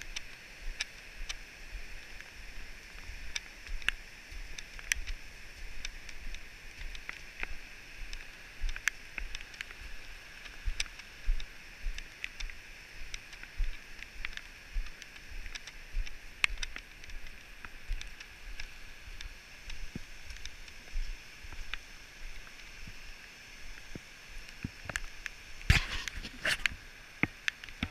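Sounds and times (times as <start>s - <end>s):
steady hiss: 0.0s - 27.9s
footsteps on wet gravel: 3.0s - 23.0s, 23.7s - 26.8s.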